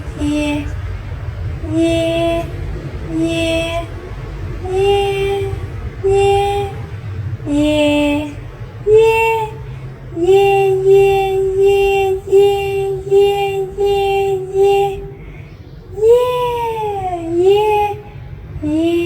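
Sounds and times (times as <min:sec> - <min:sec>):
high voice singing yeah: 0:00.0 - 0:00.9, 0:01.6 - 0:19.0.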